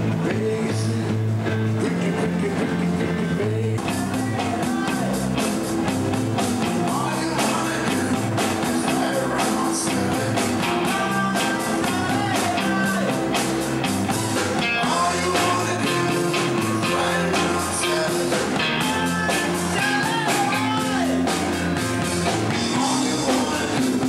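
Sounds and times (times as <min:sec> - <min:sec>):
live rock and roll band: 0:00.0 - 0:24.0
harmonica lead line: 0:04.2 - 0:24.0.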